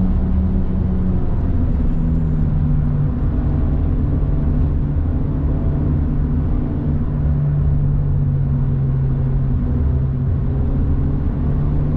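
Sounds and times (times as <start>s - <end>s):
car engine cruising: 0.0s - 11.9s.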